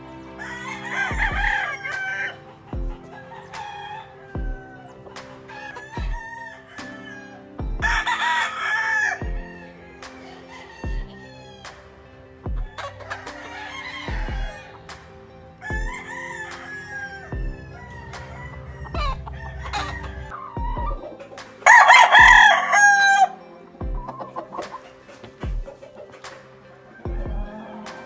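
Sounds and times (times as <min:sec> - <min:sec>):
music with steady beat: 0:00.0 - 0:28.0
roosters clucking: 0:00.0 - 0:28.0
rooster crowing: 0:00.2 - 0:11.7, 0:12.5 - 0:14.9, 0:15.6 - 0:23.4, 0:26.9 - 0:28.0.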